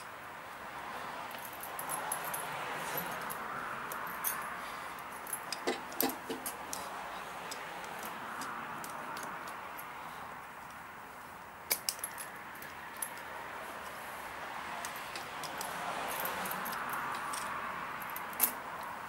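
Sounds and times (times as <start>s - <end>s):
tire chain links clinking: 1.2s - 10.0s, 10.6s - 19.0s.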